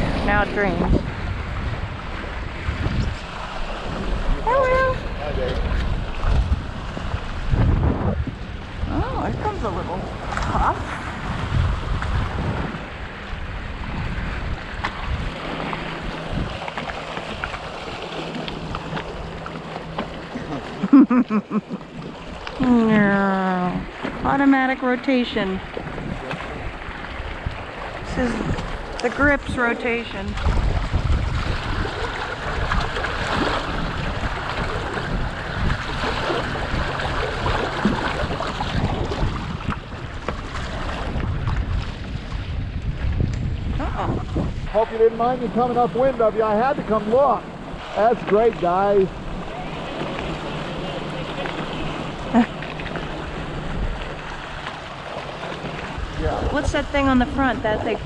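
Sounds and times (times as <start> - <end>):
wind buffeting microphone: 0.0 - 20.9, 21.8 - 58.0
water rushing along boat hull: 0.0 - 58.0.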